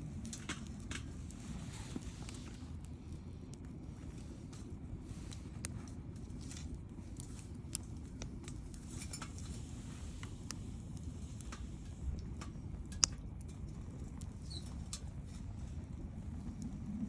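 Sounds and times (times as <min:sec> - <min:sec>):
burning wood crackling and popping: 0:00.0 - 0:17.0
campfire flames rushing: 0:00.0 - 0:17.0.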